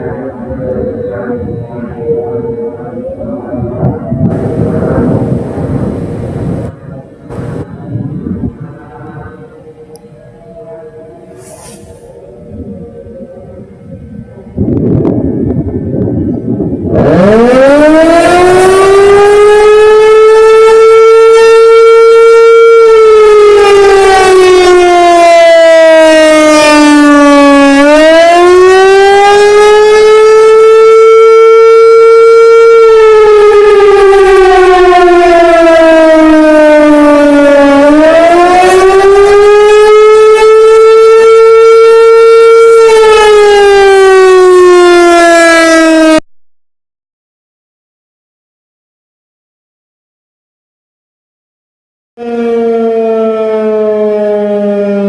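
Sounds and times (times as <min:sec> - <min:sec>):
civil defense siren wailing: 0:00.0 - 0:46.2, 0:52.2 - 0:55.0.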